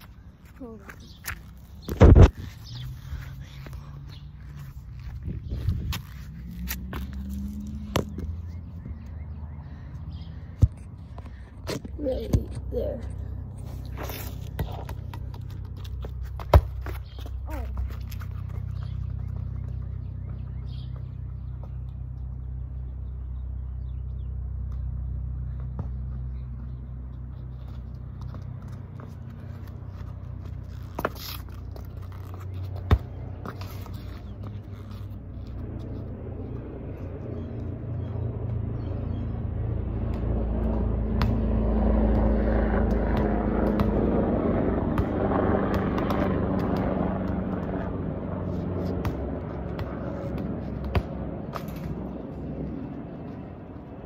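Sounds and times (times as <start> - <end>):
low engine rumble: 0.0 - 54.0
ball bouncing on asphalt: 5.0 - 9.3, 10.5 - 12.9, 13.9 - 22.6, 24.5 - 54.0.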